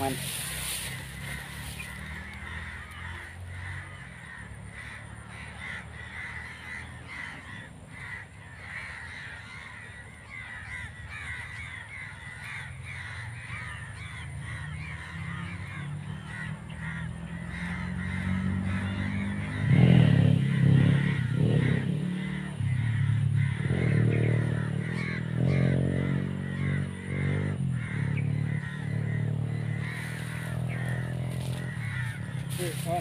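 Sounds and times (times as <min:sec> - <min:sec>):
crow cawing: 0:00.0 - 0:33.0.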